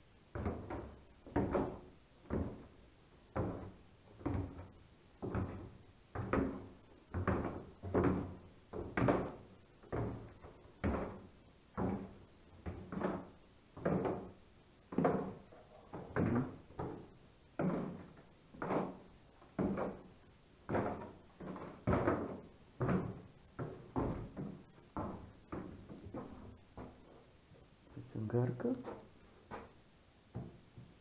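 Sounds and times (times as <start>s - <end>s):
footsteps climbing stairs: 0.3s - 27.7s, 28.8s - 31.0s.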